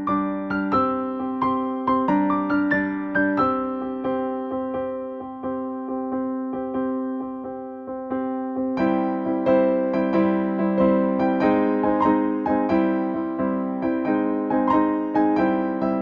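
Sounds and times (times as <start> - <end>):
electric piano music: 0.0 - 16.0.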